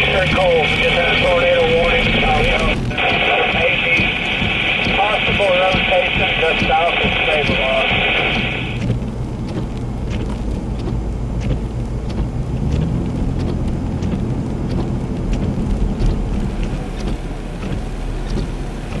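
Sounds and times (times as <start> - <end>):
raindrops ticking on vehicle: 0.0 - 19.0
storm wind rumble: 0.0 - 19.0.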